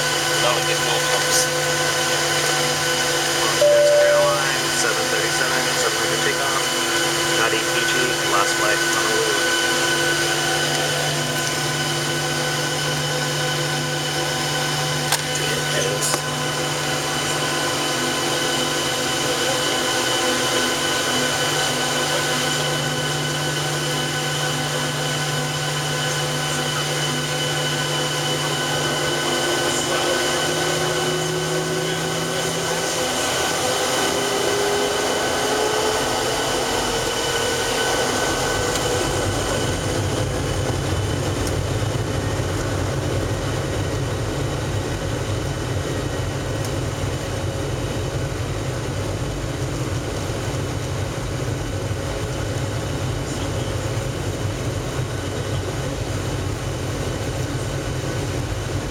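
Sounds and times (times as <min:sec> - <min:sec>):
jet engines in aircraft cabin: 0:00.0 - 0:58.9.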